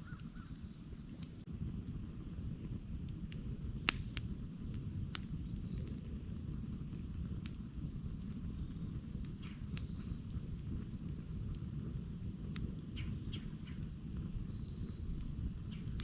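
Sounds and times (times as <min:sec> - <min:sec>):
burning wood crackling and popping: 0:00.0 - 0:16.0
fire flames rumbling: 0:00.0 - 0:16.0.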